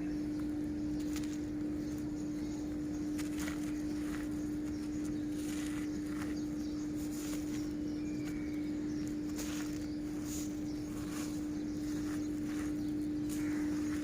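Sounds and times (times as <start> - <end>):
steady low hum: 0.0 - 14.0
damp material crumbled by hand: 2.7 - 14.0.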